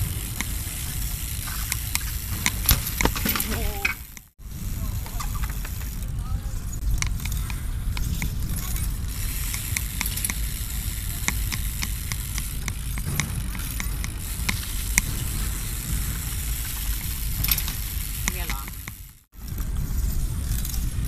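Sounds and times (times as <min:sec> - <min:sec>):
sharp clicks and ticks: 0:00.0 - 0:04.4, 0:06.8 - 0:19.7
bike tyres rumbling on concrete: 0:00.0 - 0:21.0.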